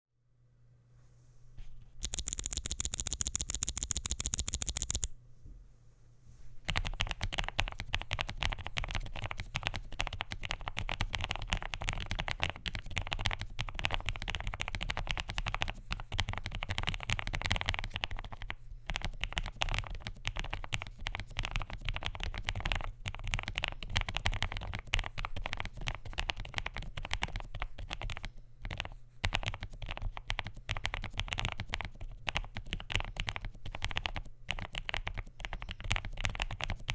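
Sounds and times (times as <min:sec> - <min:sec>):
mechanical keyboard typing: 0:02.0 - 0:05.1, 0:06.7 - 0:36.9.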